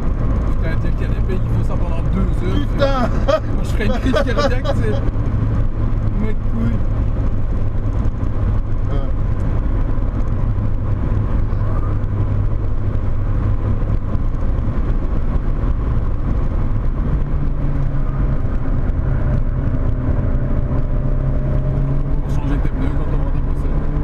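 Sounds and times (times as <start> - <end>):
car engine running hard: 0.0 - 24.0.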